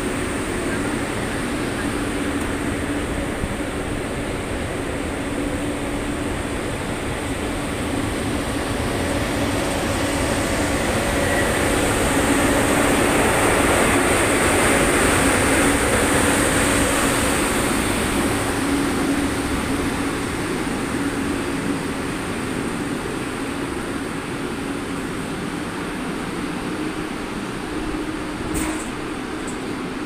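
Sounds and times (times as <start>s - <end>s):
electric locomotive passing: 0.0s - 30.0s.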